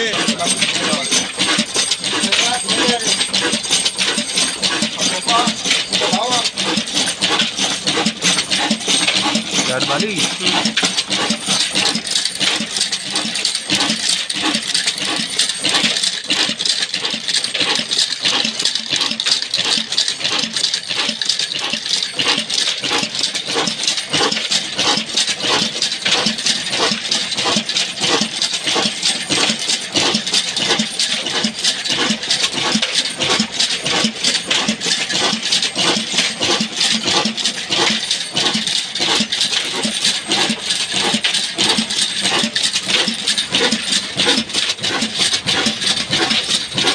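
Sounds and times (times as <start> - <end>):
diesel engine metallic clatter: 0.0 - 46.9.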